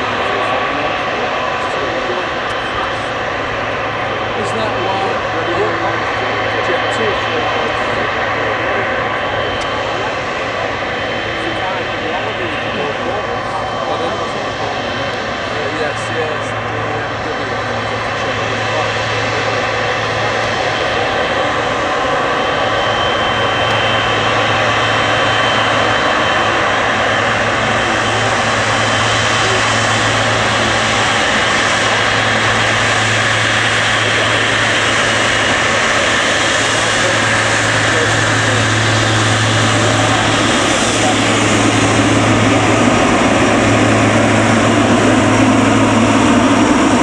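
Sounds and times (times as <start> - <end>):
jet engines at taxi power: 0.0 - 47.0.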